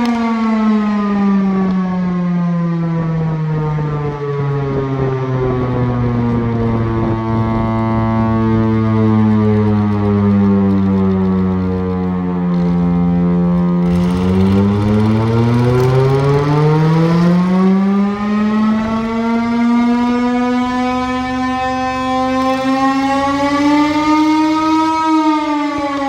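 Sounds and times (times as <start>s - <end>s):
air raid siren: 0.0s - 26.0s.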